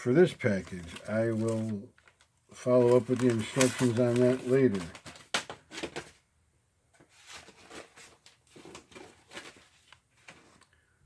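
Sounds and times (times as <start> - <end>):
packaging rustling: 0.4 - 6.2, 7.0 - 10.8.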